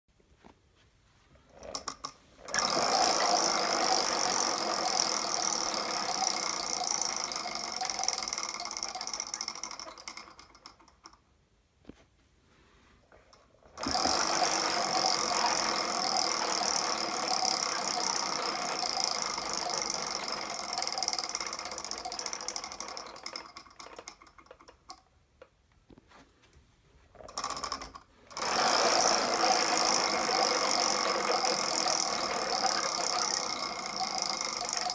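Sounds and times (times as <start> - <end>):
prize wheel clicking as it spins: 1.6 - 11.2, 13.8 - 25.0, 27.2 - 34.9.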